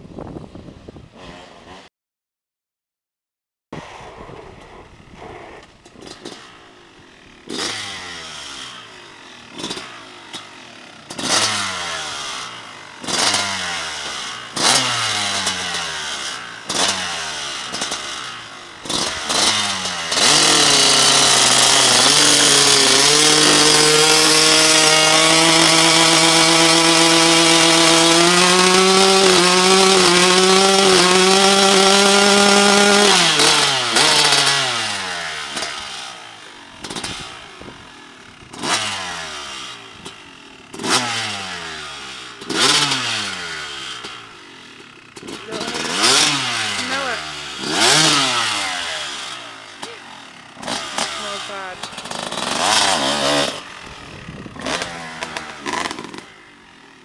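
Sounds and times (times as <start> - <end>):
two-stroke dirt bike engine revving: 1.2 - 1.9, 3.8 - 57.0.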